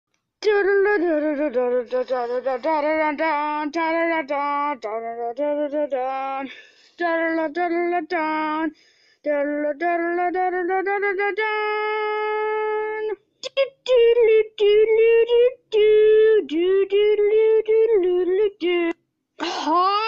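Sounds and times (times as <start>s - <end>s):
high voice singing wordless tune: 0.4s - 20.0s.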